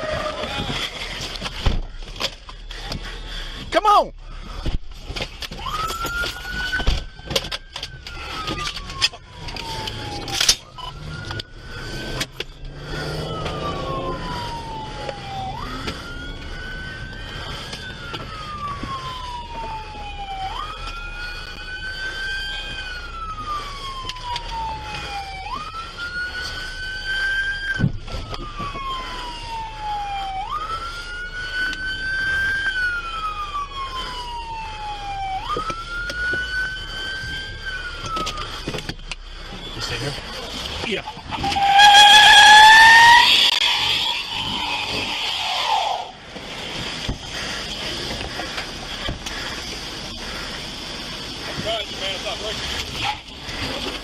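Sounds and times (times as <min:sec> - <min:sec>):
police siren wailing: 0:00.0 - 0:54.0.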